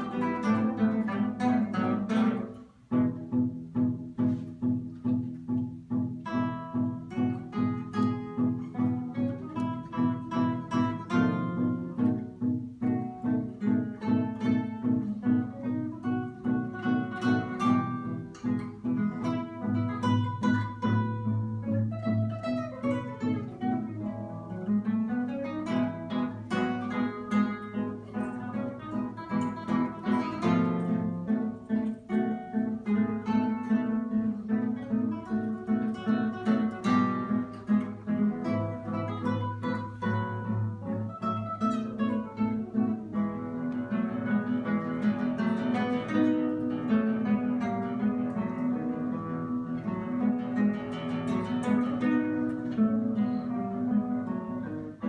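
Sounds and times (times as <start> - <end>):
classical guitar duet: 0.0 - 55.0.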